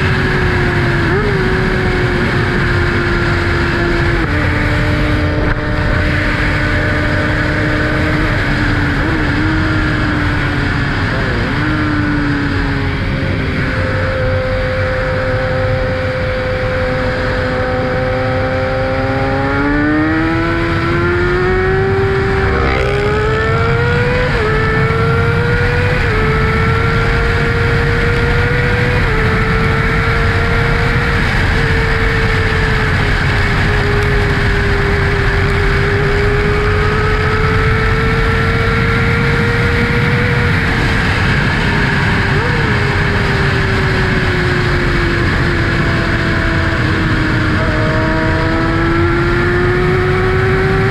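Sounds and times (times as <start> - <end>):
motorcycle engine accelerating: 0.0 - 50.9
wind rush: 0.0 - 50.9.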